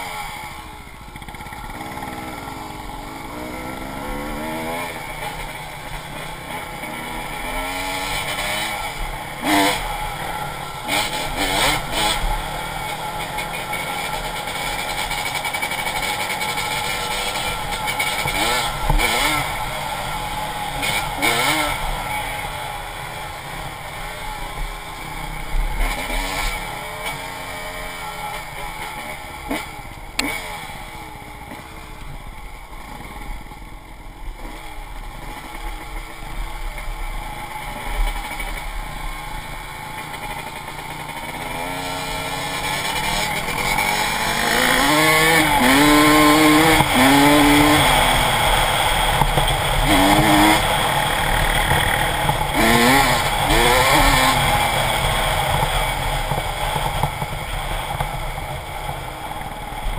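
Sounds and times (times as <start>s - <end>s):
dirt bike engine revving: 0.0s - 32.0s, 34.3s - 59.9s.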